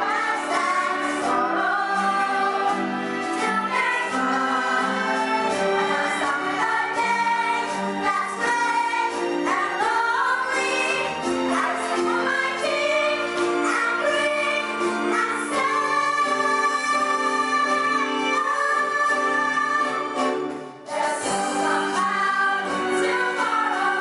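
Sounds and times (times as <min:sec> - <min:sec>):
choir singing with music: 0:00.0 - 0:24.0.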